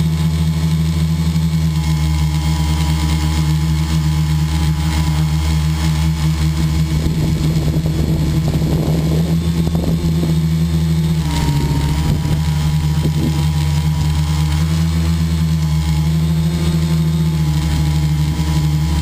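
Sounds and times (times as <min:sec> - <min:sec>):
model aircraft engine droning: 0:00.0 - 0:19.0.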